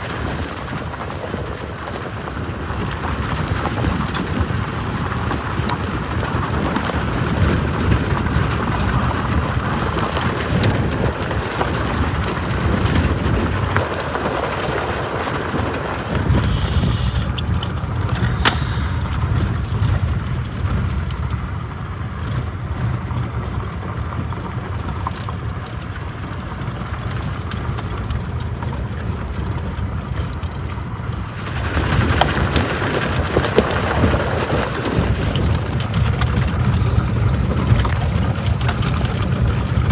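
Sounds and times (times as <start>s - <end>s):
freight train rumbling: 0.0s - 39.9s
wind buffeting microphone: 0.0s - 39.9s.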